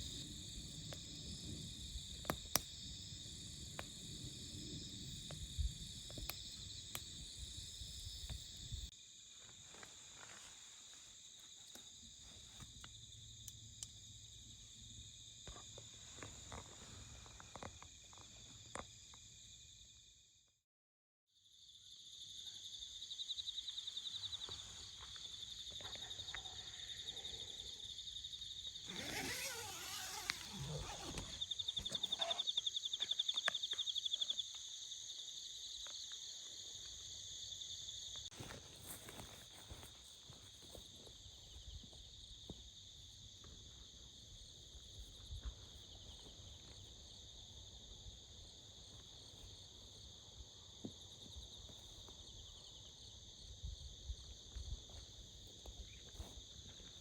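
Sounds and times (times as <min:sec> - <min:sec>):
insects trilling: 0:00.0 - 0:20.2, 0:21.5 - 0:57.0.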